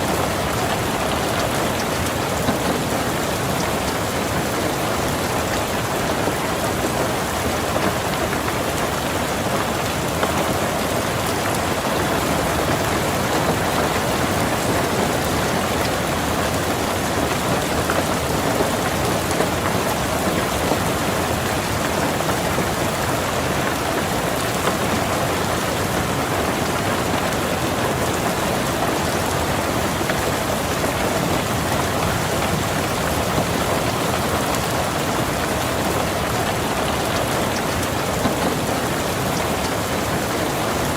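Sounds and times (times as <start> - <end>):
rain falling on a car: 0.0 - 40.9.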